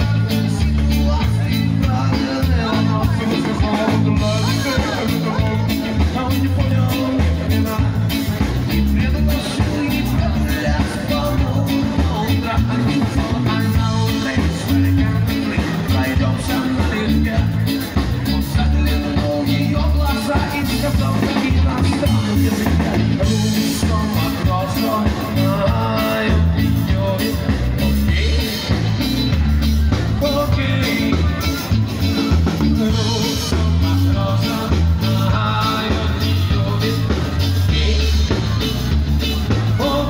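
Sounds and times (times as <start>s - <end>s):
person singing: 0.0s - 40.0s
rock band playing: 0.0s - 40.0s.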